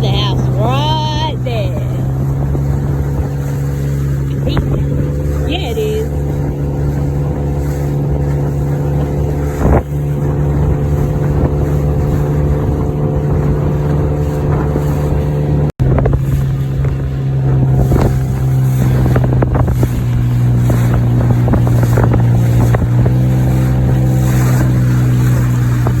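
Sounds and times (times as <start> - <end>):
outboard motor running: 0.0 - 26.0
wind buffeting microphone: 0.0 - 26.0.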